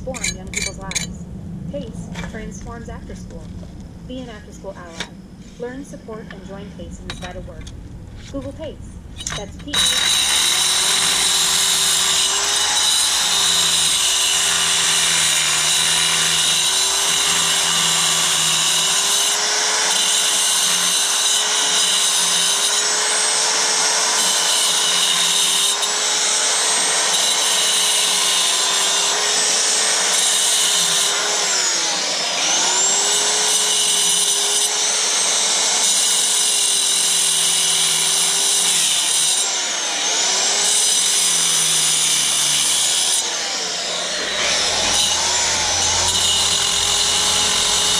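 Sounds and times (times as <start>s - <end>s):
power tool motor whirring: 9.2s - 47.9s.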